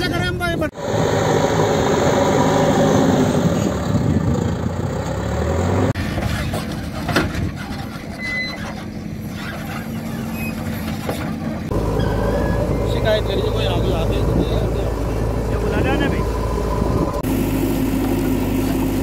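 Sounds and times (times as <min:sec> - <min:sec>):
diesel engine working under load: 0:00.1 - 0:19.0.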